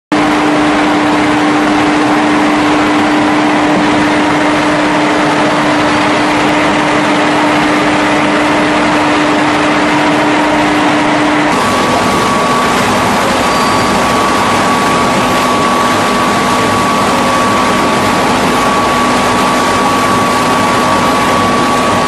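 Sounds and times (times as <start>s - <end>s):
constant machine hum: 0.1s - 22.0s
mill machinery droning: 0.1s - 22.0s.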